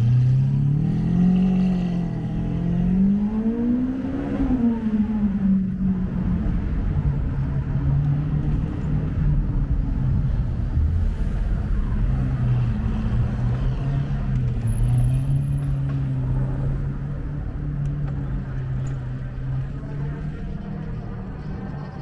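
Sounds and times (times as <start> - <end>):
city road traffic: 0.0 - 22.0
vehicle engine humming: 0.0 - 22.0.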